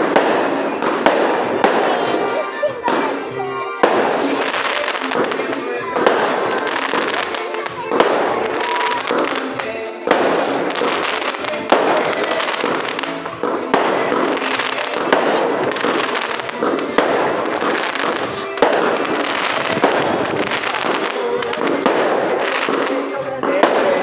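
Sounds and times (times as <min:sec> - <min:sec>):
firework bangs: 0:00.0 - 0:24.0
fireworks crackling hiss: 0:00.0 - 0:24.0.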